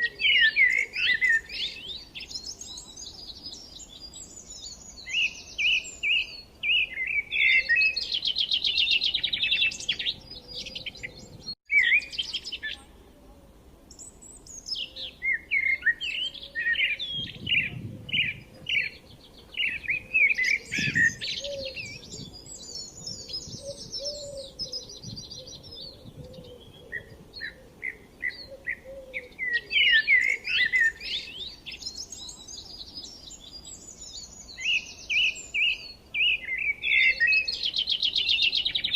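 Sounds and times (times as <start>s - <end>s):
songbirds chirping and singing: 0.0s - 13.2s, 13.8s - 38.9s.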